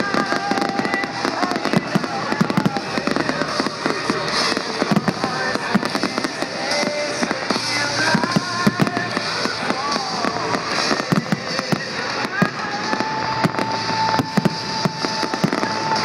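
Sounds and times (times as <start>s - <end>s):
fireworks bangs and crackles: 0.0s - 16.0s
fireworks whistling: 0.0s - 16.0s.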